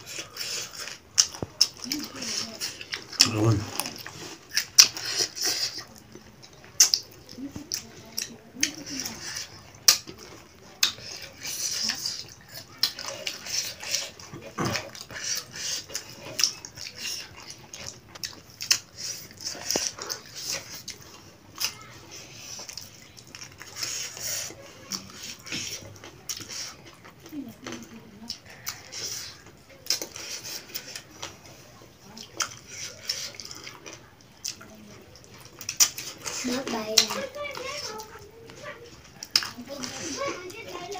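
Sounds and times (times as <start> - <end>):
people chewing: 0.0 - 40.9.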